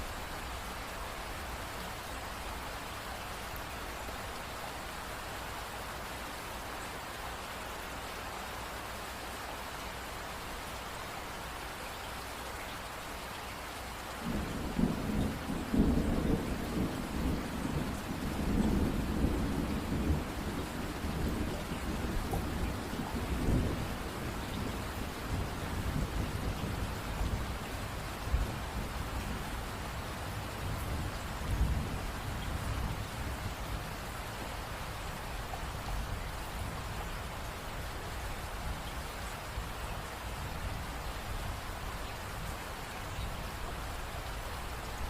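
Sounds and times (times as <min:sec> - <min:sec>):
rain hiss: 0:00.0 - 0:45.0.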